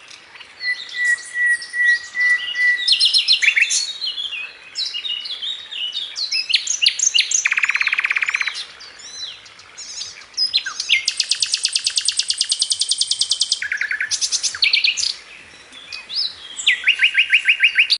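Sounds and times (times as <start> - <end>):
small birds chirping and trilling: 0.0 - 17.9.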